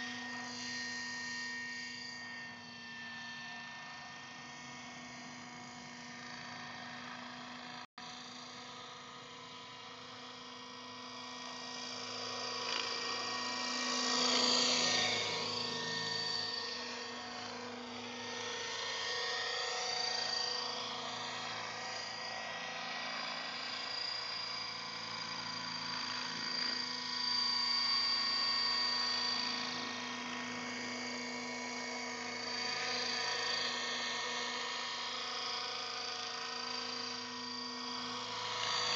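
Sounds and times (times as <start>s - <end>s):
model helicopter motor whine: 0.0s - 38.9s.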